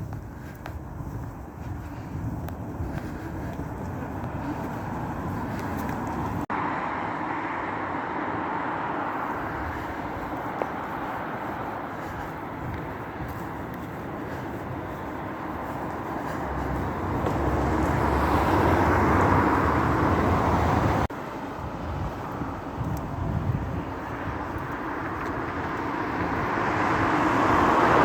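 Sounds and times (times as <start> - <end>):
vehicle running hum: 0.0 - 28.0.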